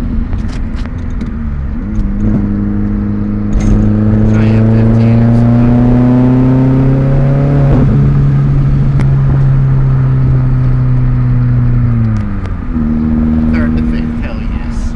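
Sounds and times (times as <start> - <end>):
loud car exhaust: 0.0 - 14.9.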